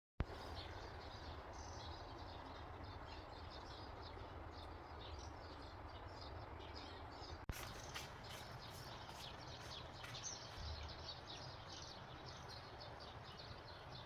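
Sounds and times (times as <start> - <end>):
low wind rumble: 0.2 - 14.0
small birds chirping: 0.2 - 14.0.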